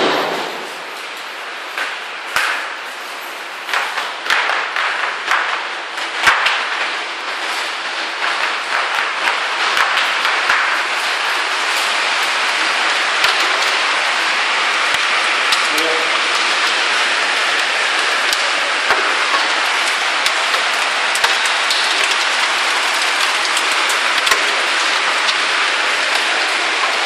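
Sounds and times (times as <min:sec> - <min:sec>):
hailstones hitting hard surfaces: 0:00.0 - 0:27.0
rain: 0:00.0 - 0:27.0.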